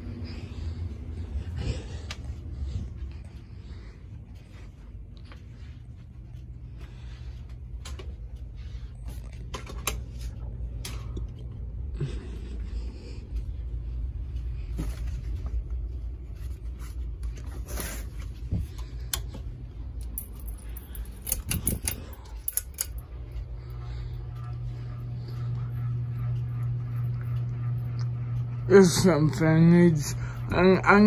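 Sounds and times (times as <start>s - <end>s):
ceiling fan motor humming: 0.0s - 31.0s.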